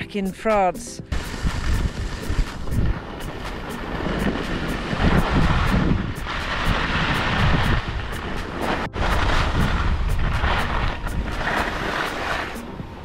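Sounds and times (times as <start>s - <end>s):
wind rumbling across microphone: 1.1s - 13.0s.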